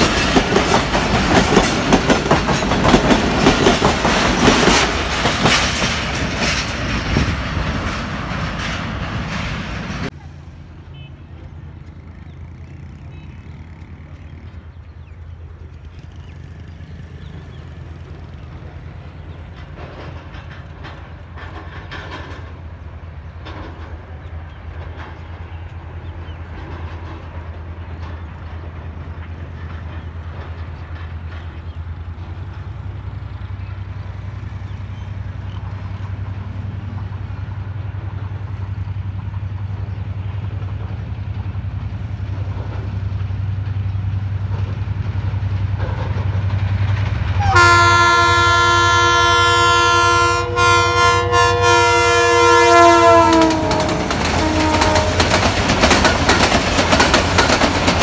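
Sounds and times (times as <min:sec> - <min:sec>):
locomotive engine drone: 0:00.0 - 0:58.0.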